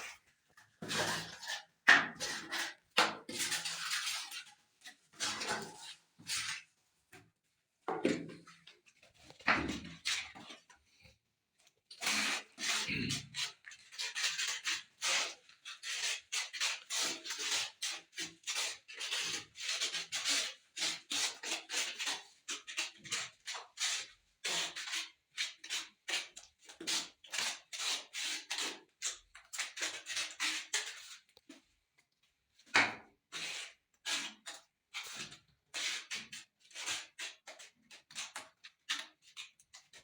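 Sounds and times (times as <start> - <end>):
trowel scraping tile cement: 0.0 - 6.7, 11.9 - 31.2, 32.6 - 40.0.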